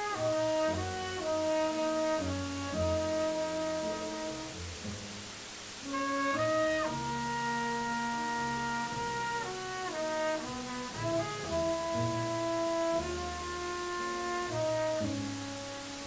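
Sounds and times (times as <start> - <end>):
saxophone melody: 0.0 - 4.8, 5.8 - 16.0
double bass: 0.0 - 16.0
piano: 0.0 - 16.0
trumpet melody: 0.0 - 16.0.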